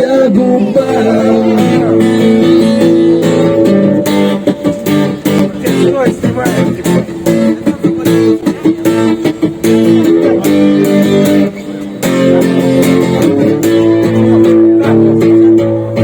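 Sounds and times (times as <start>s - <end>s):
guitar strumming chords: 0.0s - 16.0s.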